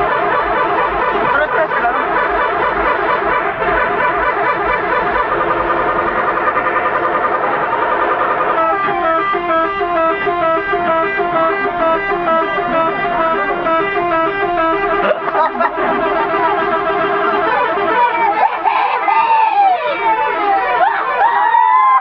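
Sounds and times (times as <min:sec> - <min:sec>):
air horns playing a melody: 0:00.0 - 0:21.2.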